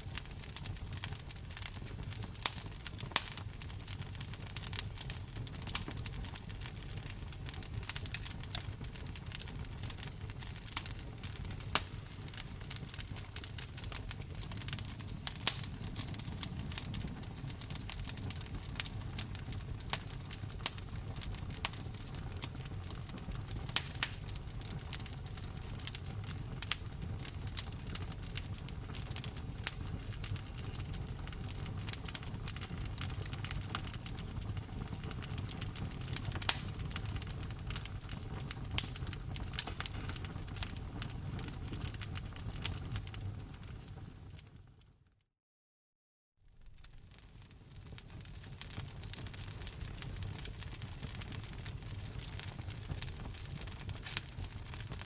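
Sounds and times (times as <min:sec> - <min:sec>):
fire pops and snaps: 0:00.0 - 0:45.0, 0:46.5 - 0:55.0
wood fire crackling: 0:00.0 - 0:45.0, 0:46.5 - 0:55.0.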